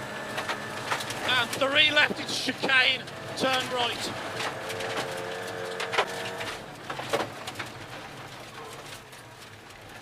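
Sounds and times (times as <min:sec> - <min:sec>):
rally car engine: 0:00.0 - 0:10.0.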